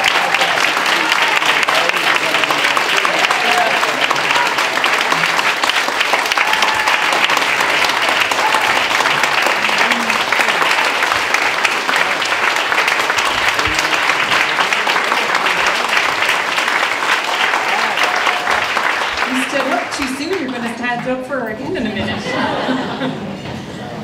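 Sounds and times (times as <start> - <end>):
people applauding: 0.0 - 21.5.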